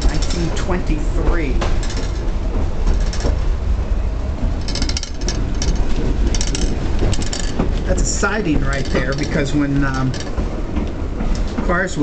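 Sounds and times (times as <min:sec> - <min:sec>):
streetcar rattling and clicking: 0:00.0 - 0:12.0
streetcar rumbling on track: 0:00.0 - 0:12.0.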